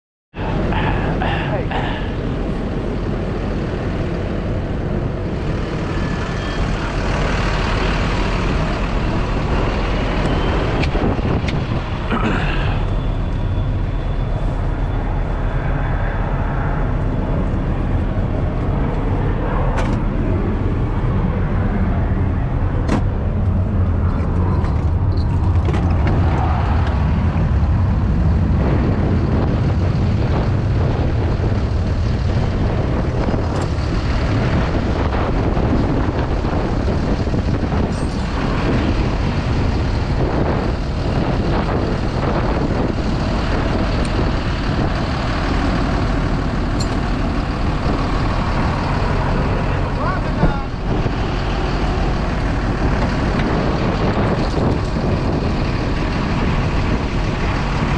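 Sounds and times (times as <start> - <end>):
diesel truck engine idling: 0.4 - 57.9.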